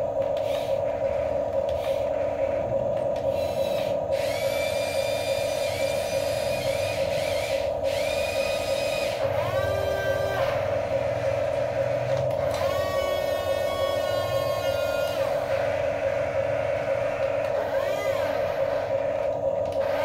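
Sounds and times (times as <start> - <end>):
steady hum: 0.0 - 20.0
small electric motors whining: 0.4 - 20.0.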